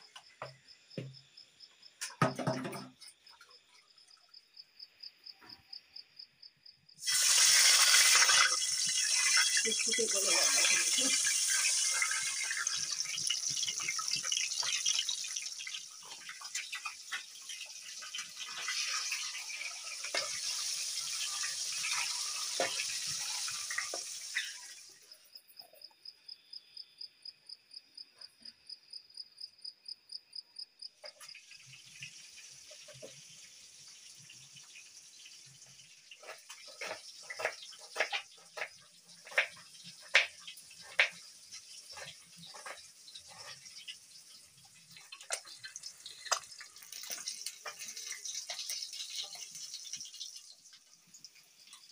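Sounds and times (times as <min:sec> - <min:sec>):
eggs frying in hot oil: 0:00.0 - 0:04.4, 0:06.9 - 0:26.1, 0:30.3 - 0:51.9
insect chirping: 0:00.0 - 0:51.9.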